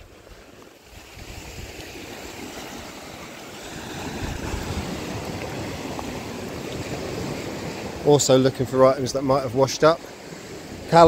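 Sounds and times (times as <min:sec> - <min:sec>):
wind buffeting microphone: 0:00.0 - 0:09.2
surf washing on shore: 0:00.0 - 0:11.0.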